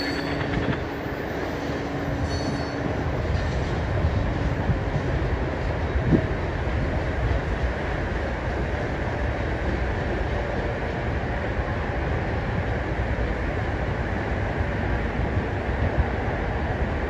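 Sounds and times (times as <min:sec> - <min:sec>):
train wheels rolling on rails: 0:00.0 - 0:17.0.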